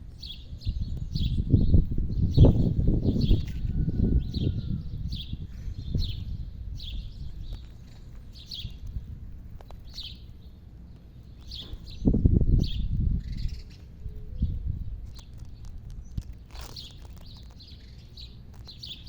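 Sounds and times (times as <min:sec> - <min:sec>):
low rumbling noise: 0:00.0 - 0:16.6
bird chirping: 0:00.1 - 0:19.0.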